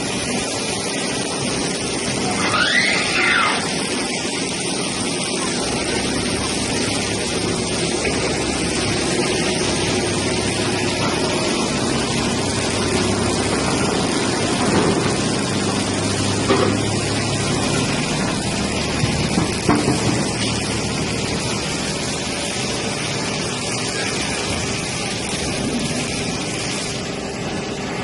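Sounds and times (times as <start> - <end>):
plate rolling machine humming: 0.0 - 28.0.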